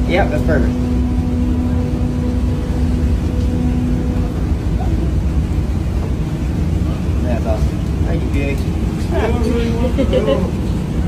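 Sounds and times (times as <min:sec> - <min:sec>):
low machinery rumble: 0:00.0 - 0:11.0
steady machinery hum: 0:00.0 - 0:11.0.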